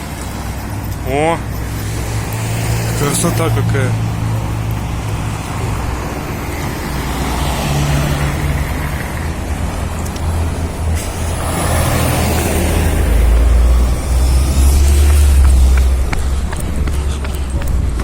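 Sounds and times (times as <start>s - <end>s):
road noise: 0.0s - 18.0s
vehicle engine running: 0.0s - 18.0s.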